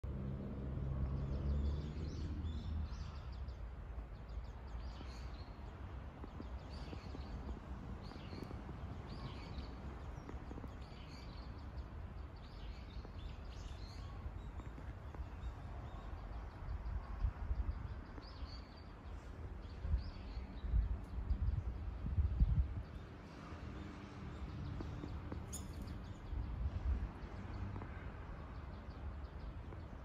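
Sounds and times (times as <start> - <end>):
small birds chirping: 0.9 - 30.0.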